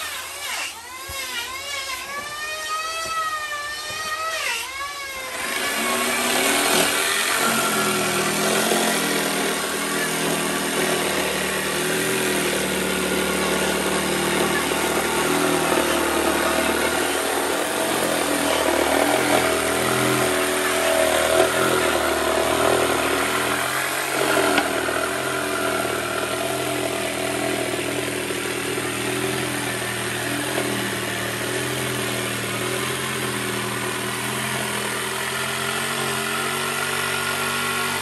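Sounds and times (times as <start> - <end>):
electric jigsaw cutting wood: 0.0 - 38.0.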